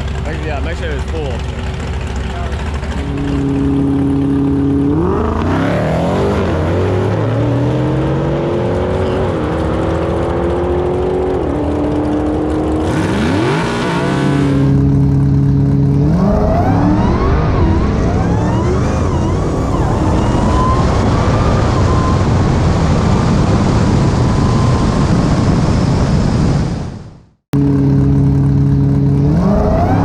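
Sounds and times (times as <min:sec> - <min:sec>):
car engine accelerating: 0:00.0 - 0:25.6, 0:27.6 - 0:30.0.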